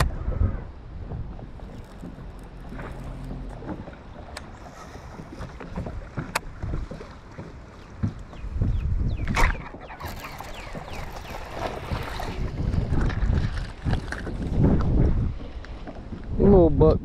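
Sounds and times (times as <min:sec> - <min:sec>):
water around boat: 0:00.0 - 0:17.0
wind rumble on microphone: 0:00.0 - 0:17.0.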